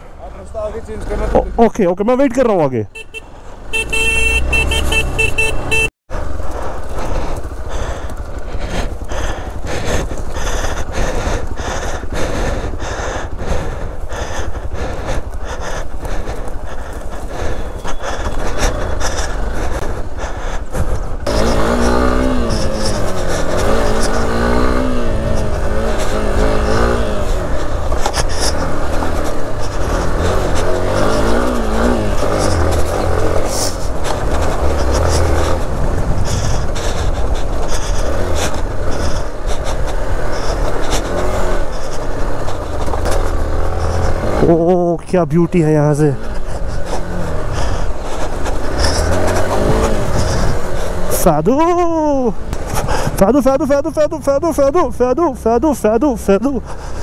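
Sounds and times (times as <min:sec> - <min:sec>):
motorcycle engine revving: 0:00.0 - 0:01.7, 0:02.9 - 0:57.0.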